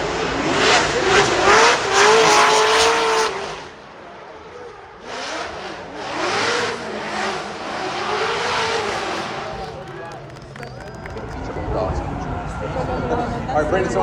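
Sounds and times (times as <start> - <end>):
car engines revving hard: 0.0 - 14.0
tire noise: 0.0 - 14.0.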